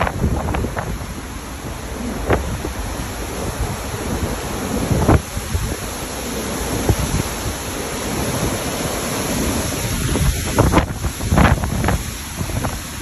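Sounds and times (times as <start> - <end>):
strong wind rushing through trees: 0.0 - 13.0
wind buffeting microphone: 0.0 - 13.0.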